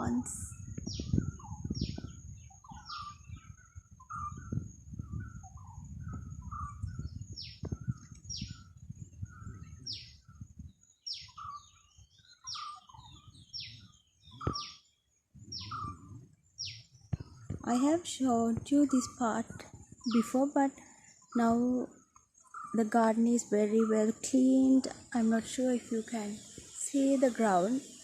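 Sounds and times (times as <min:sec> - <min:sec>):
wind buffeting microphone: 0:00.0 - 0:21.9, 0:22.5 - 0:28.0
small birds calling: 0:00.0 - 0:28.0.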